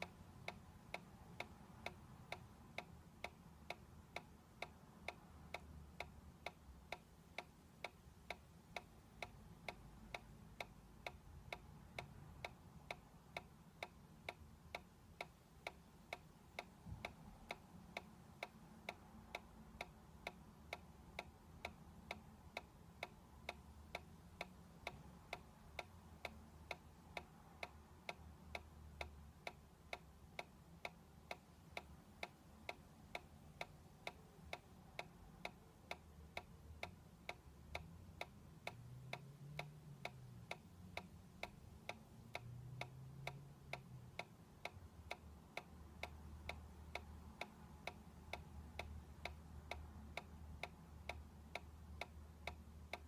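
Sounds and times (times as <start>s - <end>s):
toy ticking softly: 0.0s - 53.0s.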